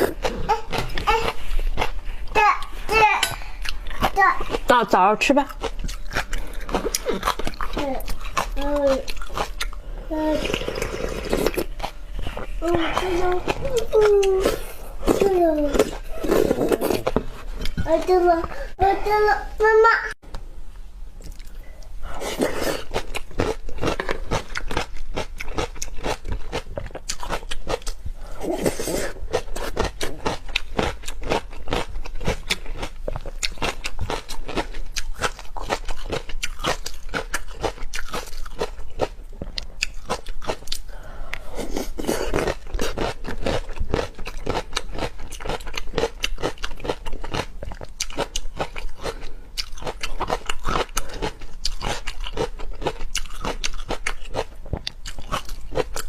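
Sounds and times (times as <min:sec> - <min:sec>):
person chewing crunchy food: 0:00.0 - 0:04.8, 0:05.5 - 0:18.2, 0:21.2 - 0:56.0.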